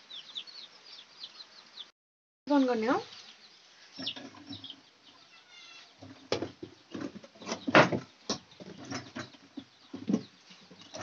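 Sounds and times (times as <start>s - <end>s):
bird chirp: 0.0s - 1.9s, 2.5s - 11.0s.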